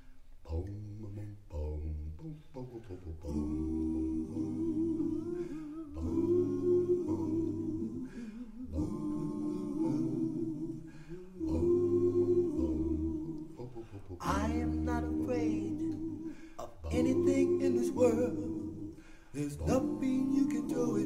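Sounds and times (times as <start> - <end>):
male vocal group singing chords: 0.0 - 21.0.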